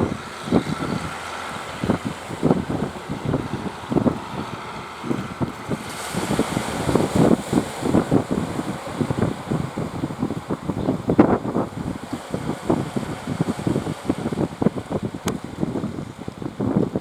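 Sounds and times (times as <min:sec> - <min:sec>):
boat motors: 0:00.0 - 0:17.0
sea noise: 0:00.0 - 0:17.0
wind buffeting microphone: 0:00.0 - 0:17.0.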